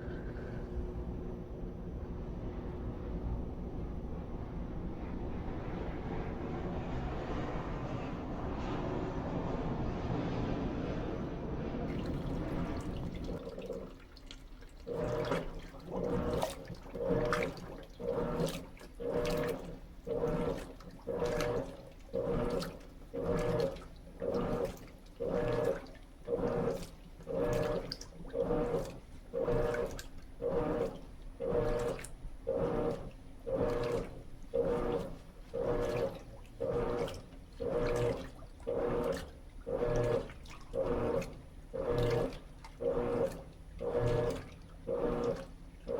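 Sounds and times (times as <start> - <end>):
washing machine water sloshing: 0.0 - 45.9.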